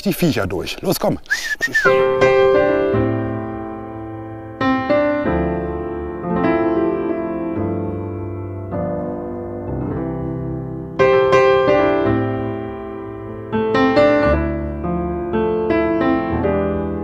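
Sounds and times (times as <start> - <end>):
soft piano chords: 1.9 - 17.0.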